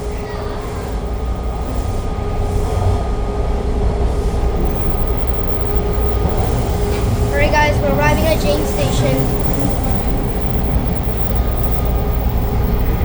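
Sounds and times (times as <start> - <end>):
steady whine: 0.0 - 13.0
wheels rumbling on track: 0.0 - 13.0.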